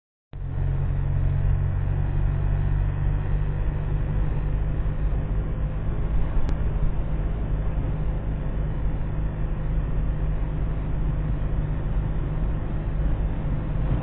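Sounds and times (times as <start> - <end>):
car engine running: 0.4 - 14.0
road noise: 0.4 - 14.0.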